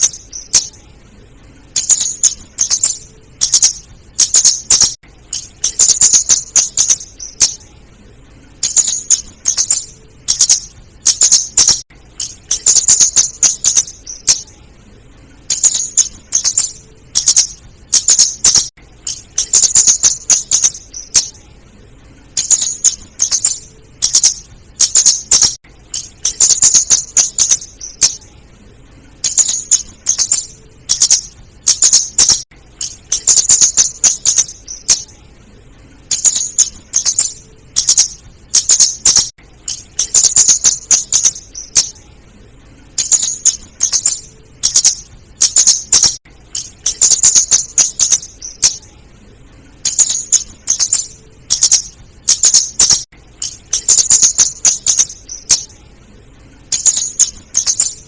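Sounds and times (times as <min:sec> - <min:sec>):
bird calling sharp ticking chips: 0:00.0 - 0:00.8, 0:01.7 - 0:07.6, 0:08.6 - 0:14.5, 0:15.4 - 0:21.4, 0:22.4 - 0:28.2, 0:29.2 - 0:35.1, 0:36.1 - 0:42.0, 0:43.0 - 0:48.8, 0:49.8 - 0:55.7, 0:56.7 - 0:58.0.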